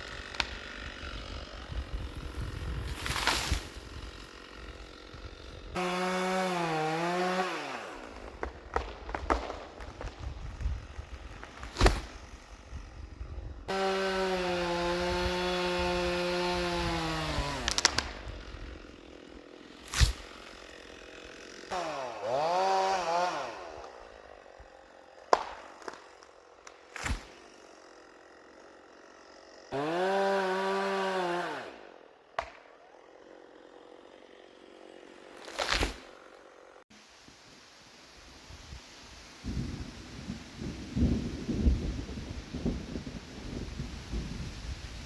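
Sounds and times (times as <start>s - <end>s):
chainsaw revving: 0.0s - 36.8s.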